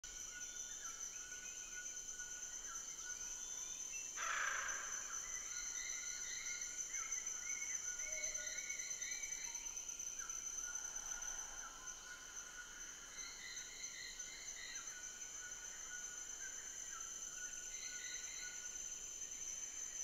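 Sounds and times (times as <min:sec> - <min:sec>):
high-pitched insects chorus: 0:00.1 - 0:20.0.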